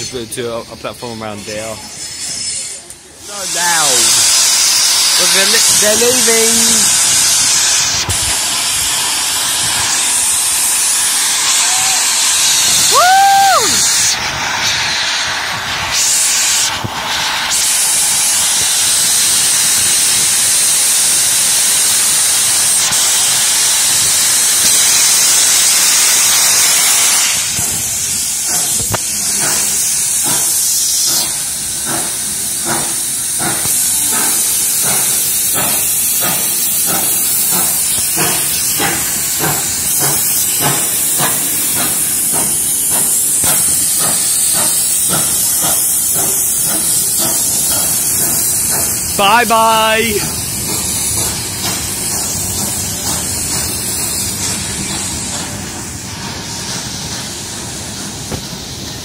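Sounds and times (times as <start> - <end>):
steam hissing: 0.0 - 59.0
steam locomotive exhaust chuffs: 0.0 - 59.0.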